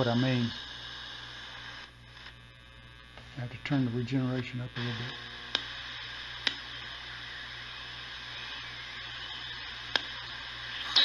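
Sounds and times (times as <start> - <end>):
sharp radio crackles: 0.0 - 11.0
shortwave radio hissing: 0.0 - 11.0.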